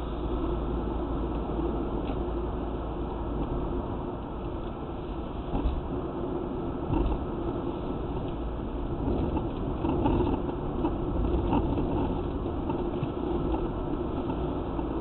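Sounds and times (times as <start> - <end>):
low engine hum: 0.0 - 15.0
road and tyre noise: 0.0 - 15.0.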